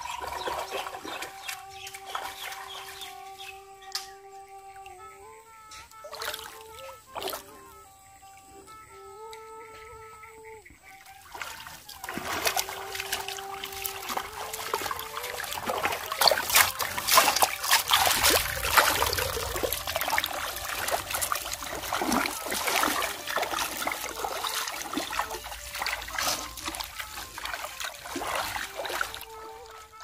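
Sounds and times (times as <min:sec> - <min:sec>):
river water splashing and trickling: 0:00.0 - 0:30.0.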